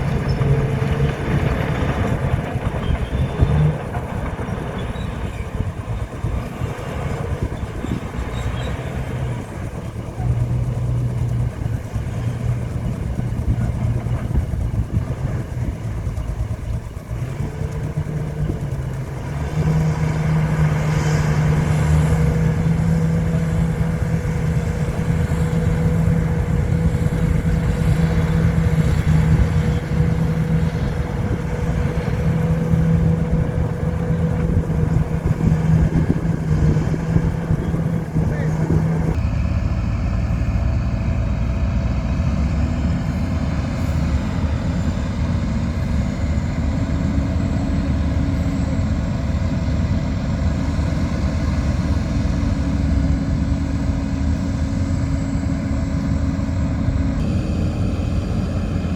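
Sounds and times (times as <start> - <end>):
diesel engine under load: 0.0 - 58.9.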